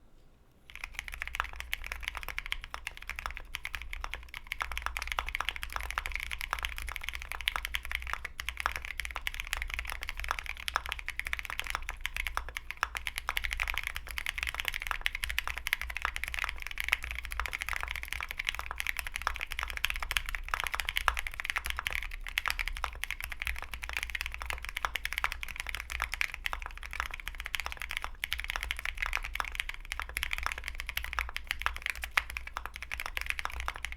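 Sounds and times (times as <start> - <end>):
fast keyboard typing: 0.7 - 33.9.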